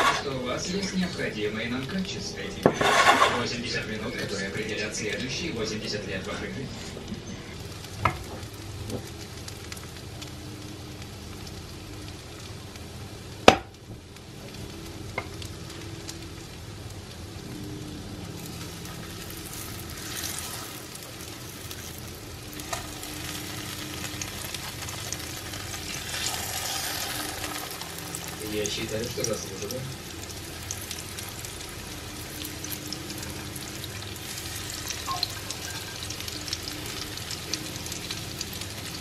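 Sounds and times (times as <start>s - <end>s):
hot oil sizzling in a frying pan: 0.0s - 6.6s, 7.5s - 39.0s.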